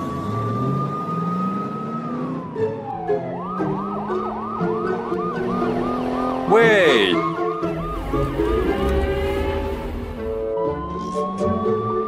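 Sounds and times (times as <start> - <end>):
police car siren wailing and yelping: 0.0 - 8.8, 10.3 - 12.0.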